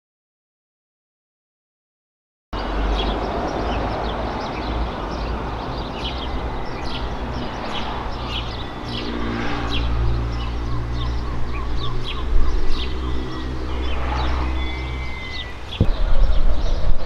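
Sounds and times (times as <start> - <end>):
small birds chirping: 2.6 - 17.0.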